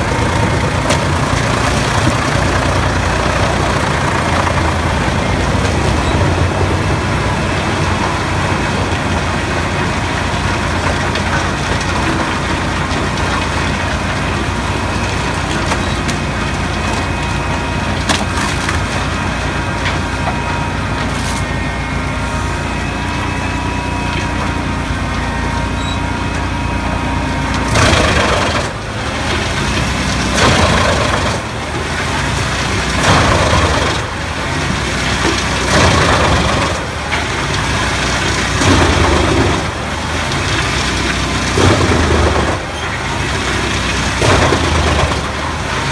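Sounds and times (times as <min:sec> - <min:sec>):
tractor engine hum: 0:00.0 - 0:45.9
wood chipper chewing wood: 0:00.0 - 0:45.9
wood chipper running: 0:00.0 - 0:45.9.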